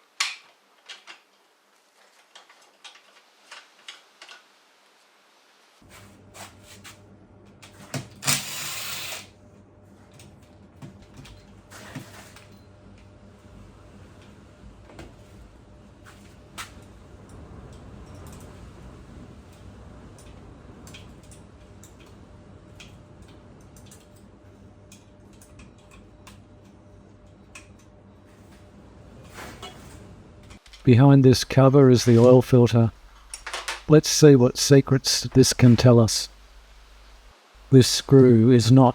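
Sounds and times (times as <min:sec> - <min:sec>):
steady low hum: 0:05.8 - 0:38.9.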